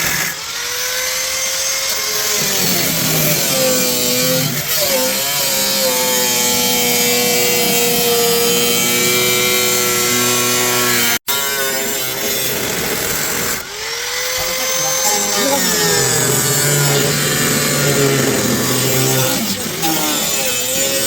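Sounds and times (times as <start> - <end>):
power tool whining: 0.0 - 21.0.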